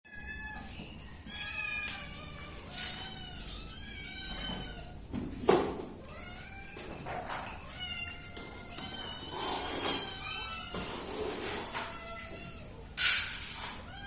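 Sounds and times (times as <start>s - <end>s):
cats meowing: 0.1s - 5.2s, 5.8s - 14.0s.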